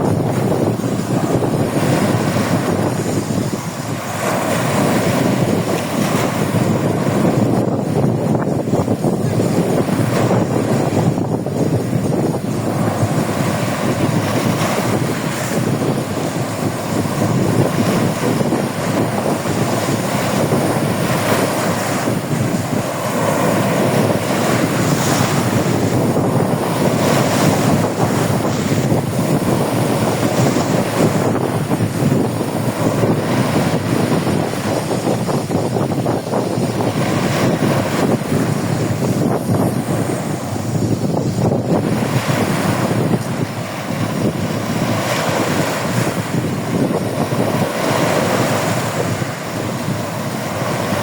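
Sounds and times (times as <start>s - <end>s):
sea waves washing onto beach: 0.0s - 51.0s
wind buffeting microphone: 0.0s - 51.0s.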